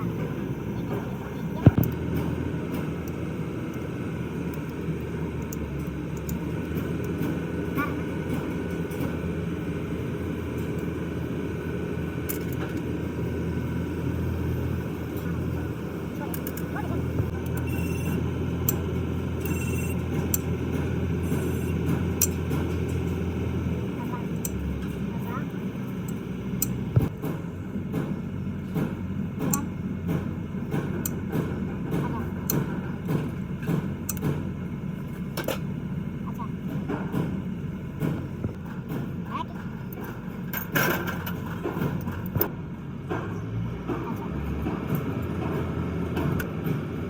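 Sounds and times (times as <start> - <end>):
low machinery hum: 0.0 - 47.0.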